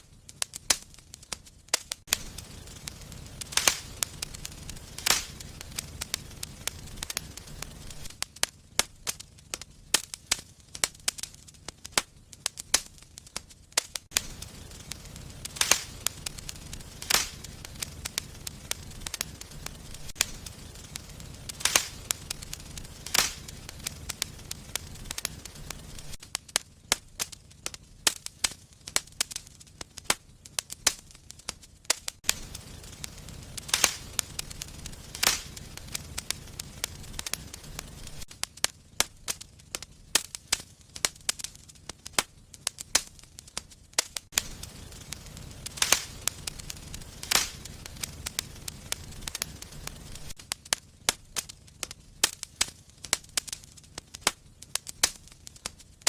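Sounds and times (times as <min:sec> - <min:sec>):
low rumble of flames: 0:00.0 - 0:56.0
sharp pops and snaps: 0:00.0 - 0:56.0
wood fire crackling: 0:00.0 - 0:56.0.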